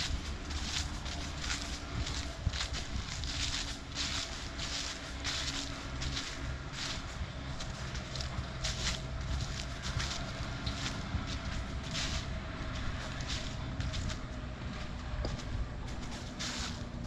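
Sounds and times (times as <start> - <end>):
footsteps crunching on forest floor: 0.0 - 17.0
low rumble: 0.0 - 17.0.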